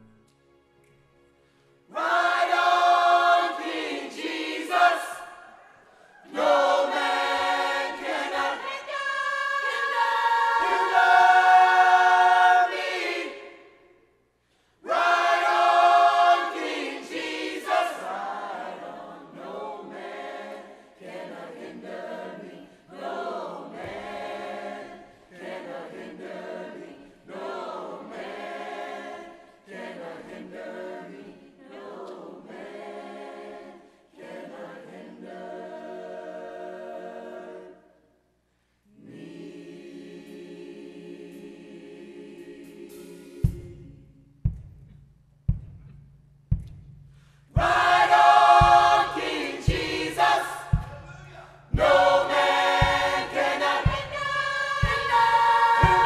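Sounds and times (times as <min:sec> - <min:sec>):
choir singing in harmony: 0:01.4 - 0:44.8, 0:47.4 - 0:56.0.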